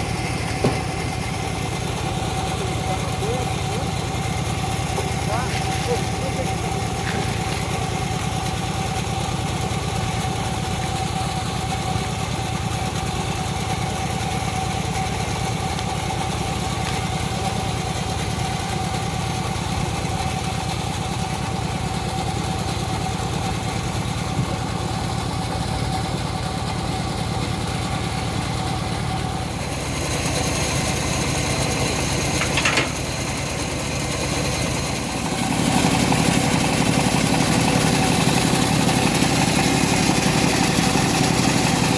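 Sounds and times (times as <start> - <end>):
bandsaw mill whining: 0.0 - 10.7, 13.8 - 41.9.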